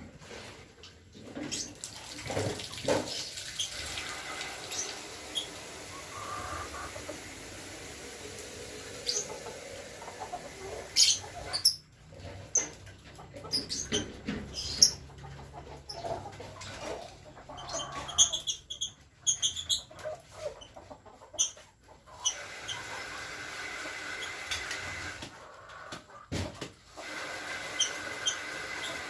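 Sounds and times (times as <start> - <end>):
chickens calling: 2.8 - 29.0.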